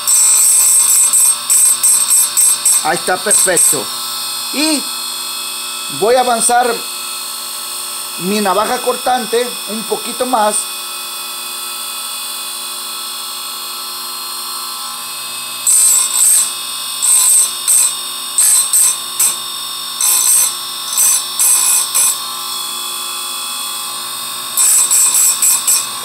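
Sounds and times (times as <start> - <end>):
sharpener motor running: 0.0 - 26.0.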